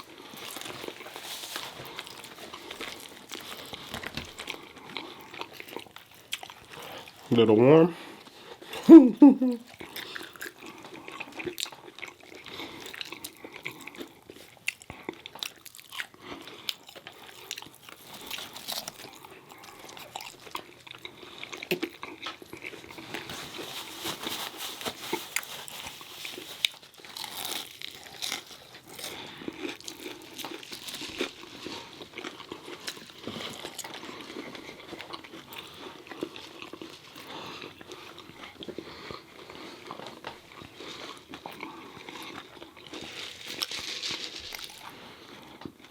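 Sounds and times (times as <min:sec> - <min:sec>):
person chewing crunchy food: 0:00.0 - 0:07.4, 0:08.0 - 0:45.9.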